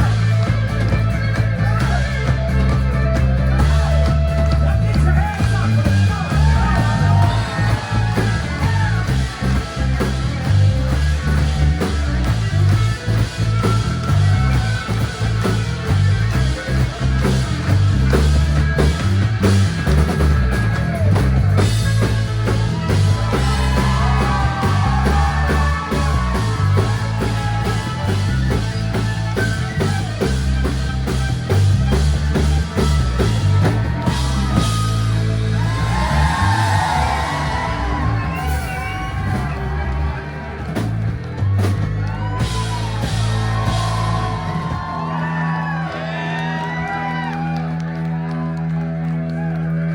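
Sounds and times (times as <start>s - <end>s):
drum beat: 0.0s - 45.8s
bass guitar: 0.0s - 49.9s.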